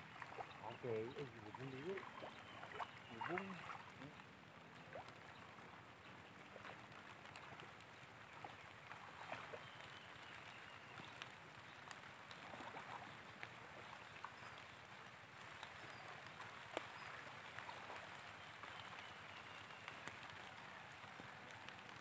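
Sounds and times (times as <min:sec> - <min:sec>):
low steady hiss: 0:00.0 - 0:22.0
water drips and splashes: 0:00.0 - 0:22.0.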